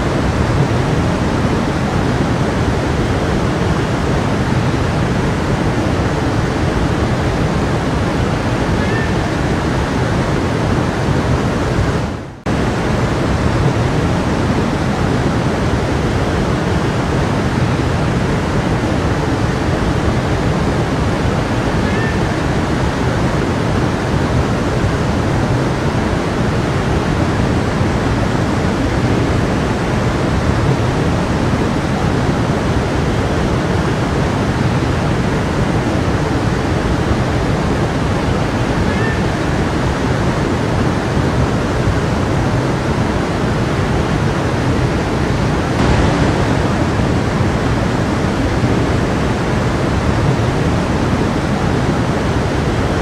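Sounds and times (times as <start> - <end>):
stream of running water: 0.0 - 53.0.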